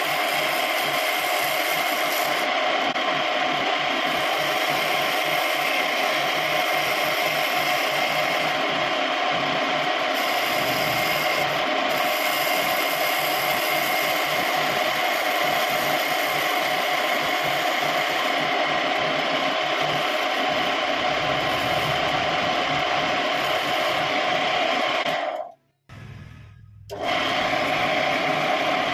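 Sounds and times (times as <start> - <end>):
wood lathe running: 0.0 - 26.1, 26.9 - 28.9.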